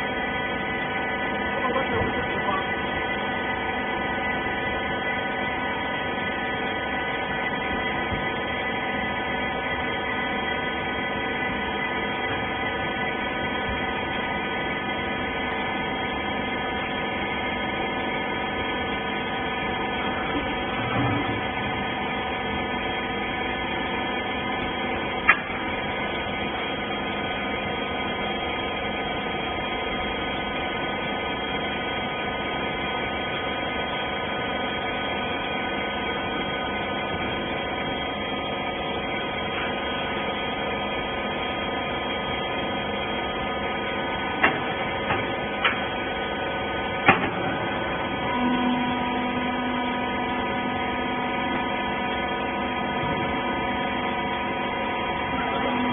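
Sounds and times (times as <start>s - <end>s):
hydraulic power unit humming: 0.0s - 55.9s.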